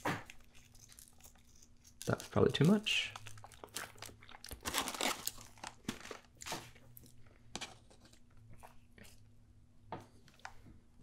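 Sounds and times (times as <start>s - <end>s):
crunching and chewing crisp food: 0.0s - 9.4s.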